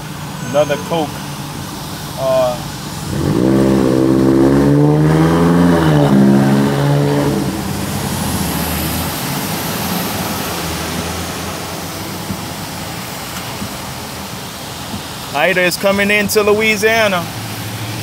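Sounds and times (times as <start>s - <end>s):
vehicle engine pulling away: 0.0s - 15.0s
tyres hissing on wet road: 0.0s - 18.0s.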